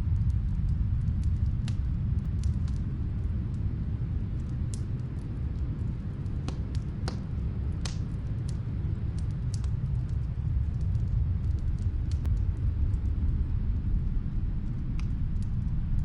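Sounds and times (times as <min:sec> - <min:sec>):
wind low rumble: 0:00.0 - 0:16.0
wood fire crackling: 0:00.0 - 0:16.0.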